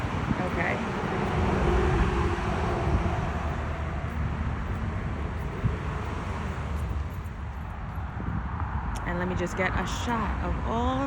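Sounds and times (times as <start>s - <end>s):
outdoor background rumble and hiss: 0.0s - 11.0s.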